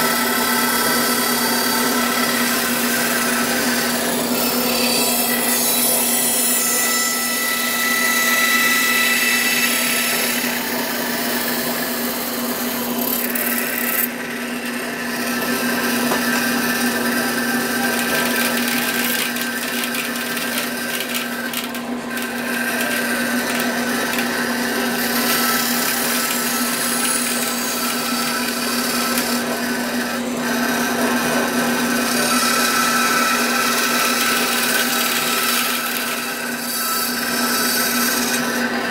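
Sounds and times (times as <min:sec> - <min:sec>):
bandsaw cutting wood: 0:00.0 - 0:38.9.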